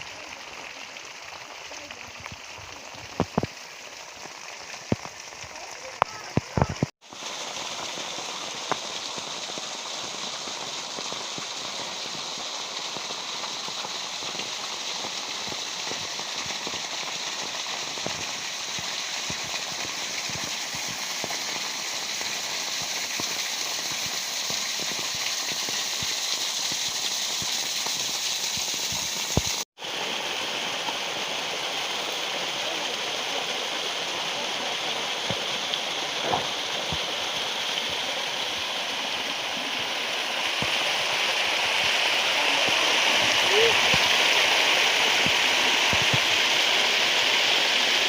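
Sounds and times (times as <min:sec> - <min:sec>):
water pouring over waterfall: 0:00.0 - 0:48.0.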